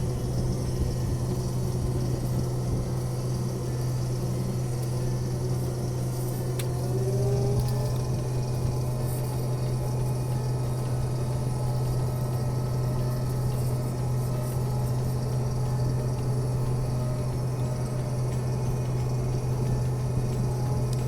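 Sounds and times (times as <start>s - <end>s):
diesel engine drone inside cab: 0.0s - 21.0s.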